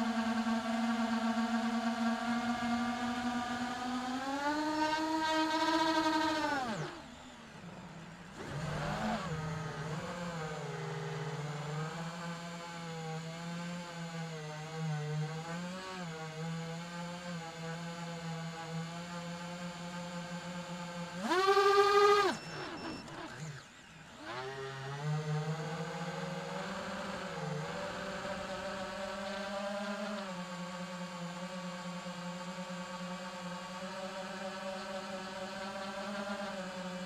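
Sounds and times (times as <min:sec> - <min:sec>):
drone motors whining: 0:00.0 - 0:37.0.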